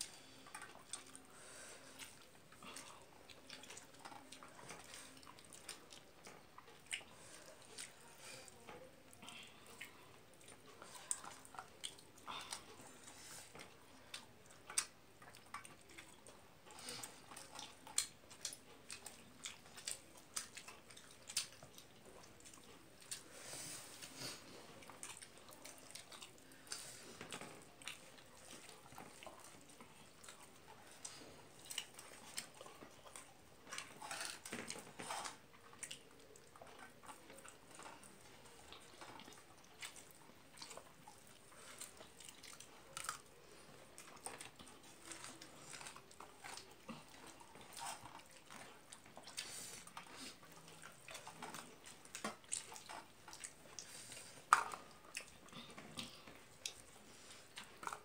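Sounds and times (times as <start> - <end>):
person chewing with mouth clicks: 0.0 - 58.0.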